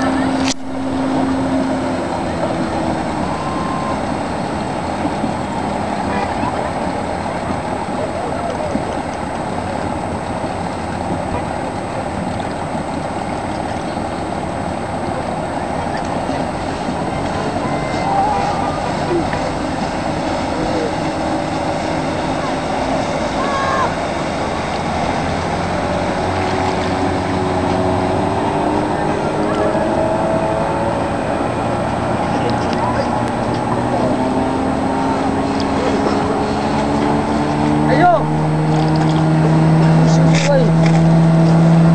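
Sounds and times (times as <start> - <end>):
outboard motors droning: 0.0 - 41.9.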